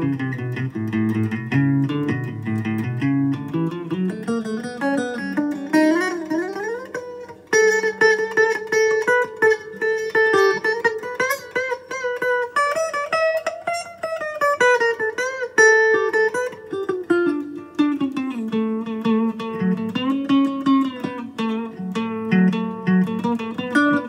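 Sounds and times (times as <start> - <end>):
electric guitar lead line: 0.0 - 24.0.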